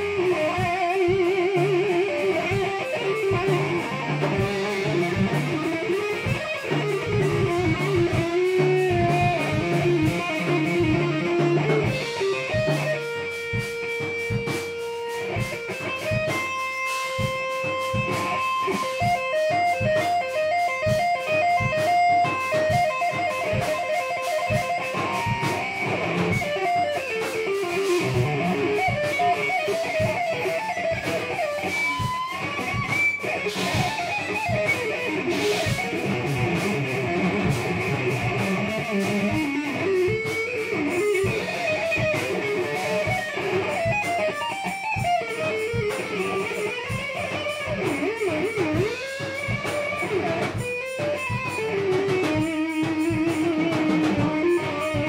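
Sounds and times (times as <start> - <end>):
electric guitar melody: 0.0 - 55.0
instrumental band jam: 0.0 - 55.0.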